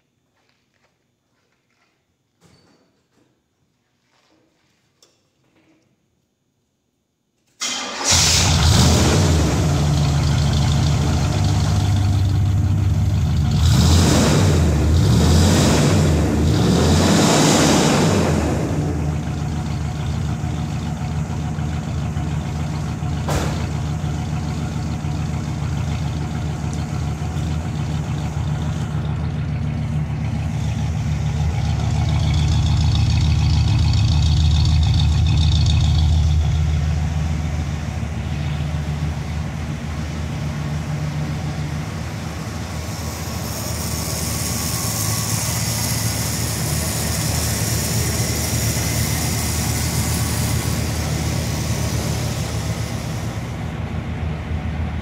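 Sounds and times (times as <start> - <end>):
car engine starting and revving: 7.6 - 53.9
car engine idling: 7.7 - 55.0.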